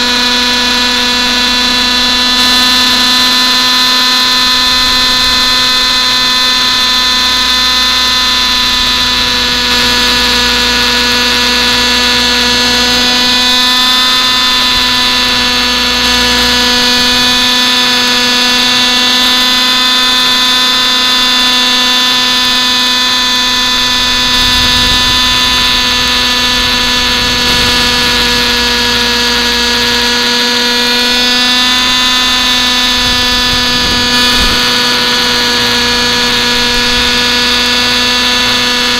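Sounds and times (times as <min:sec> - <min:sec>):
model helicopter engine whine: 0:00.0 - 0:38.9.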